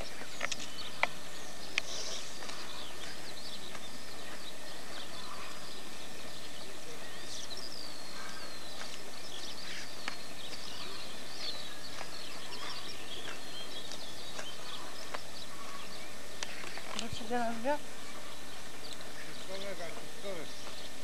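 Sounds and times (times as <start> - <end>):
small birds chirping: 0.0 - 21.0
steady hiss: 0.0 - 21.0.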